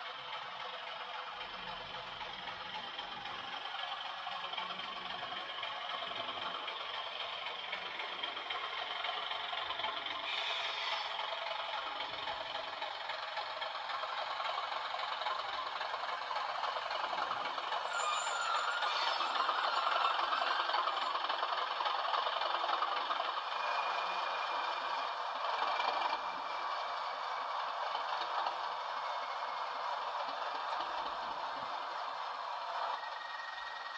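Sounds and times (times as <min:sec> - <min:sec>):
model locomotive diesel engine sound: 0:00.0 - 0:33.9.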